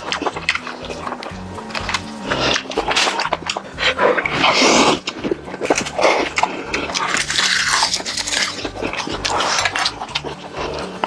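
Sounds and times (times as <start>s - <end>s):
fried chicken crunching: 0.0s - 11.0s.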